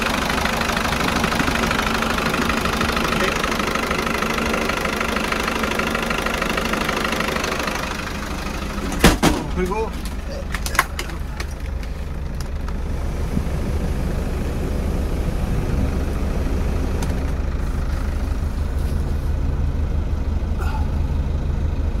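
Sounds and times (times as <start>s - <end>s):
engine idling inside cab: 0.0s - 22.0s.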